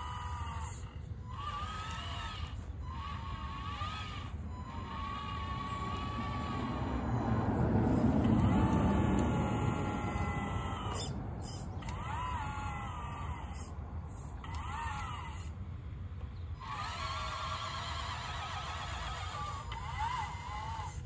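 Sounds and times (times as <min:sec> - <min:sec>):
toy wheel loader motors whining: 0:00.0 - 0:21.0.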